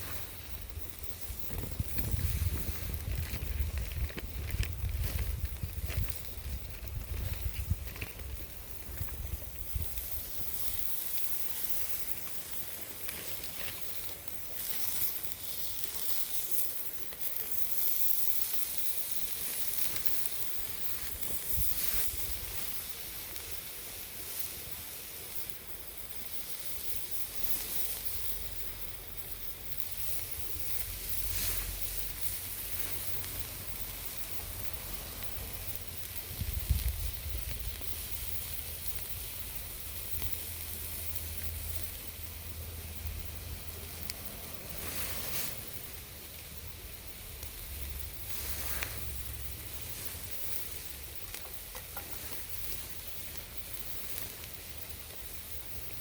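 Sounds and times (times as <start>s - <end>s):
cooking hissing: 0.0s - 56.0s
wood fire crackling: 0.0s - 56.0s.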